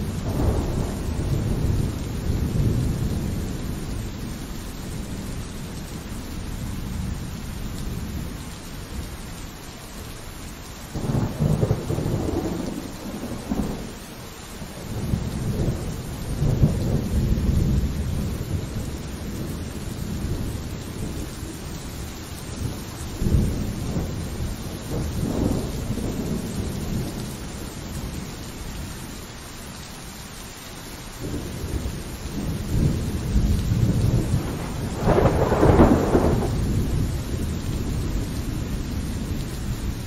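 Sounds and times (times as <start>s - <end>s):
rolling thunder: 0.0s - 9.0s, 11.0s - 14.0s, 14.7s - 28.3s, 31.2s - 40.0s
steady rain: 0.0s - 40.0s.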